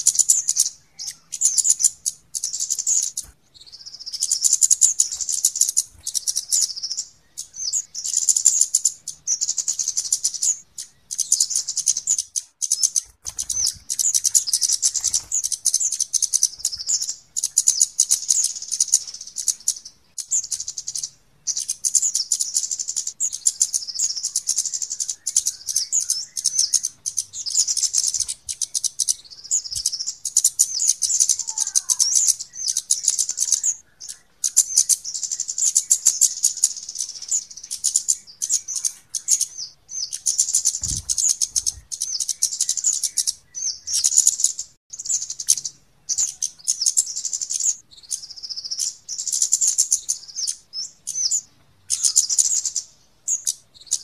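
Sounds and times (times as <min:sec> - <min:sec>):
birds high-pitched ticking calls: 0:00.0 - 0:54.0.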